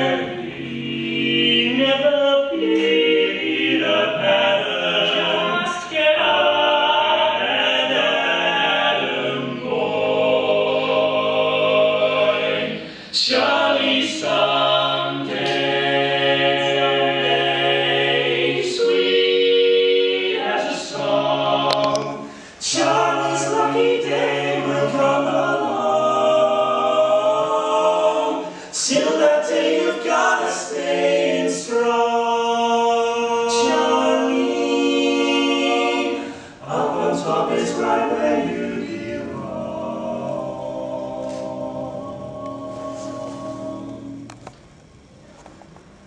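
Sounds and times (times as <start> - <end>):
male quartet singing a cappella: 0.0 - 44.3.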